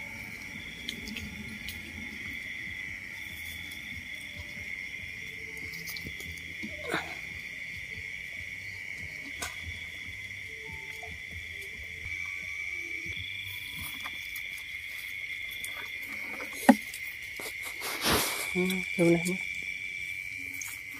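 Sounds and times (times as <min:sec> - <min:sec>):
crickets trilling: 0:00.0 - 0:20.9
higher-pitched insect: 0:00.0 - 0:20.9.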